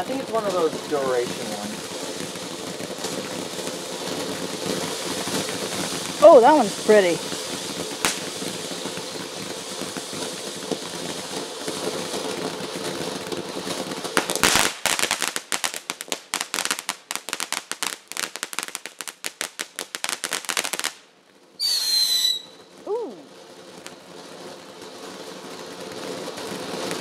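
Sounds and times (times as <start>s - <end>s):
firework burst: 0.0s - 18.1s, 21.6s - 27.0s
firework crackling: 0.0s - 27.0s
firework fountain hissing: 0.0s - 27.0s.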